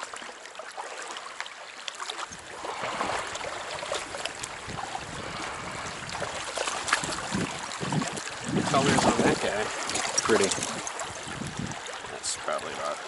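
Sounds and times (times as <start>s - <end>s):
stream water running: 0.0s - 13.0s
wind buffeting microphone: 2.3s - 12.9s.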